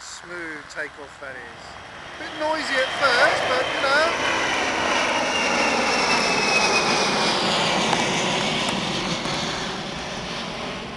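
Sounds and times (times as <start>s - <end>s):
jet engines roaring at takeoff: 0.2s - 10.9s.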